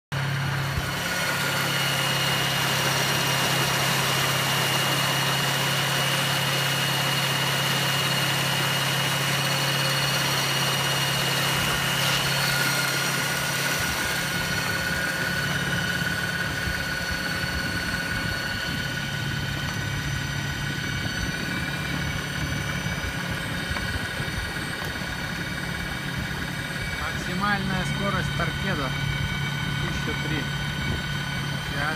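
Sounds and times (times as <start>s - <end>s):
wind: 0.1s - 31.9s
electric motor humming and whining: 0.2s - 31.9s.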